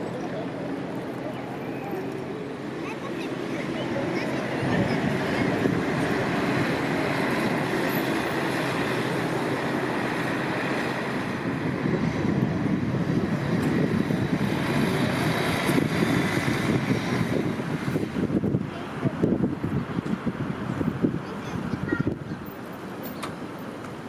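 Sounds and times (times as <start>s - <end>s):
buses driving past: 0.0s - 24.0s.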